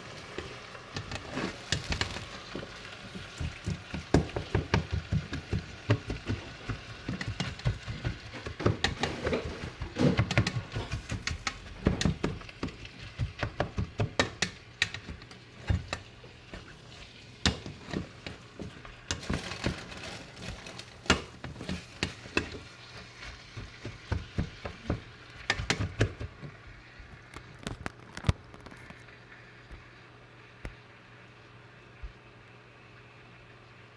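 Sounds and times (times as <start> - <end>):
food frying in hot oil: 0.0 - 33.9.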